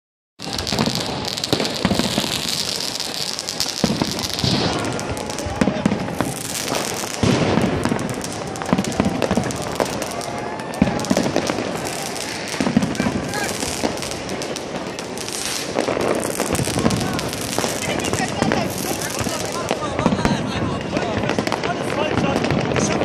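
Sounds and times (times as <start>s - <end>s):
continuous crackle: 0.4s - 23.0s
firecrackers and rockets banging: 0.4s - 23.0s.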